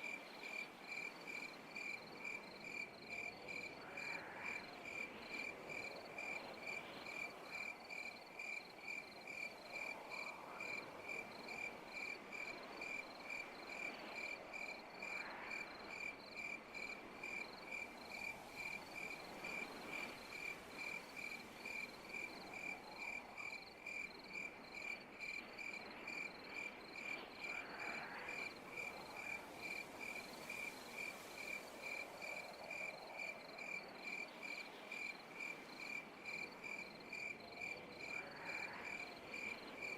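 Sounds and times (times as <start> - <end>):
night insect chirping: 0.0 - 39.9.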